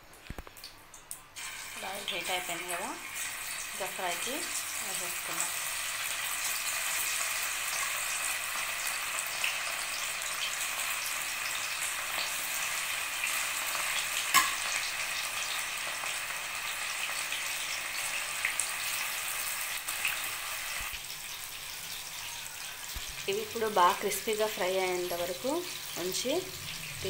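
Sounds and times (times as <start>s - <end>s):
chicken deep-frying in hot oil: 0.0s - 27.0s.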